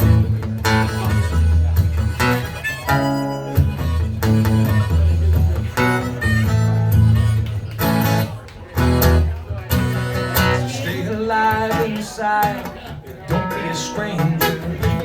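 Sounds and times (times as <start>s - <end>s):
guitar strumming: 0.0s - 15.0s.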